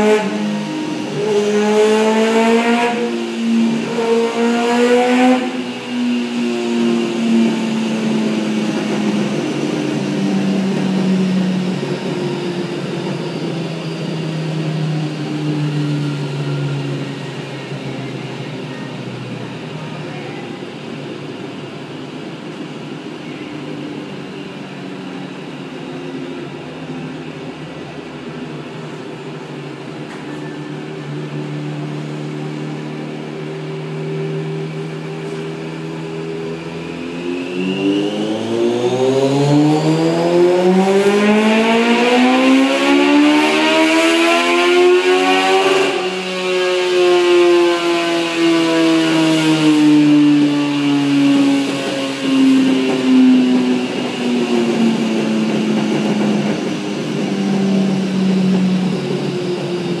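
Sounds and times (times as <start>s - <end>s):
motorcycle engine revving on dyno: 0.0s - 19.8s, 30.6s - 60.0s.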